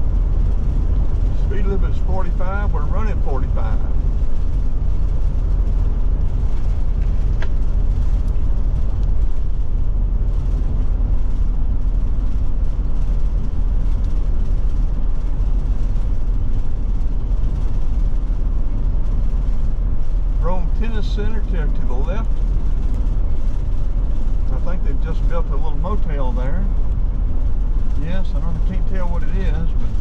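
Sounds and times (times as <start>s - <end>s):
road and engine noise in cab: 0.0s - 30.0s.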